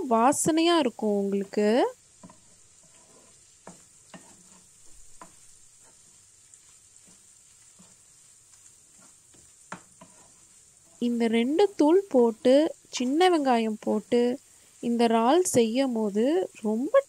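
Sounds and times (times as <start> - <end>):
prawns sizzling in a frying pan: 0.0 - 17.0
wooden spatula scraping a pan: 0.2 - 16.1.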